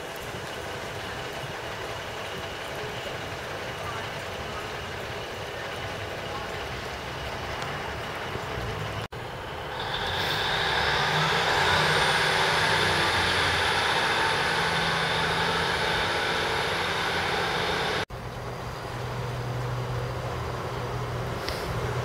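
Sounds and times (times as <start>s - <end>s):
train engine whining: 0.0s - 22.0s.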